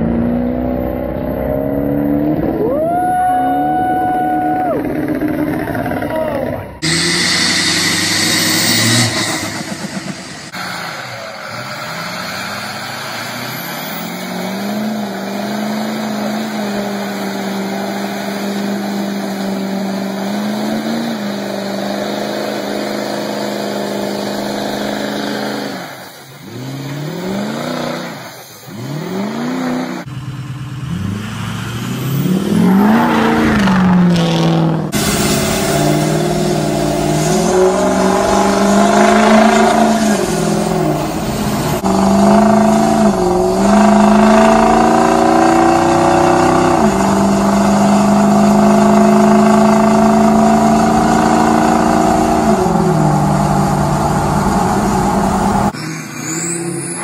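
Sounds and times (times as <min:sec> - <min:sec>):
diesel truck engine revving: 0:00.0 - 0:57.0.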